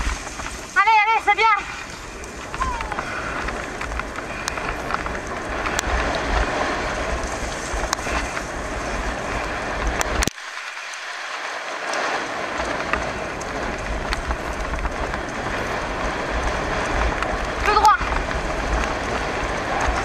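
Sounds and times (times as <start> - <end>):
tyres rolling over wet gravel: 0.0 - 20.0
wind rumbling on microphone: 0.0 - 20.0.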